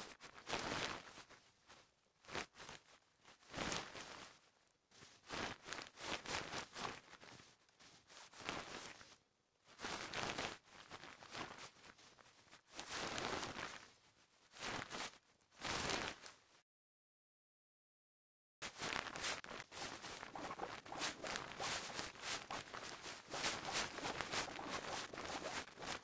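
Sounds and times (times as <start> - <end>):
clothing rustling and swishing: 0.2 - 16.5, 18.6 - 26.0.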